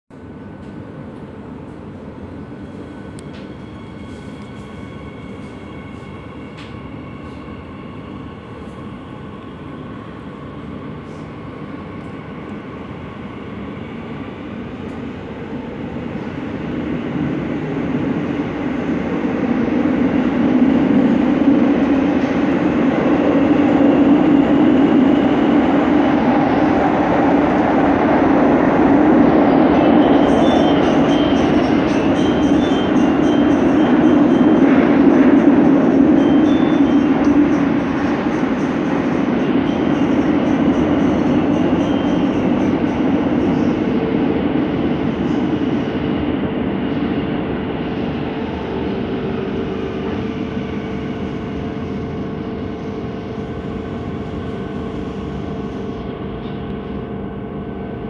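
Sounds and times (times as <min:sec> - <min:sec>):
metro train accelerating: 0:00.1 - 0:58.0.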